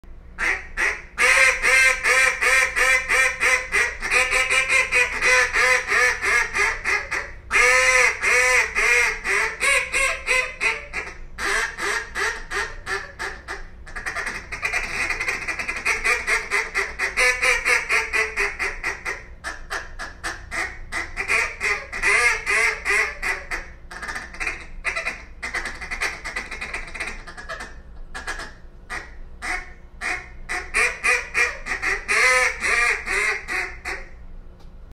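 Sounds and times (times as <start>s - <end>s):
duck call quacks: 0.4s - 34.2s.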